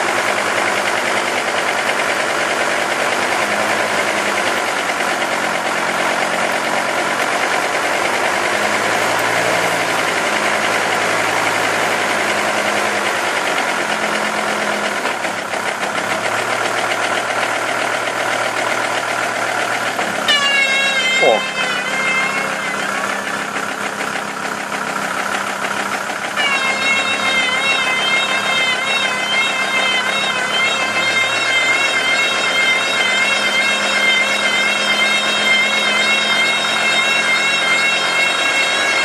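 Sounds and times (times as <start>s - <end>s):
road and engine noise: 0.0s - 39.0s
wheel bearing humming: 0.0s - 39.0s.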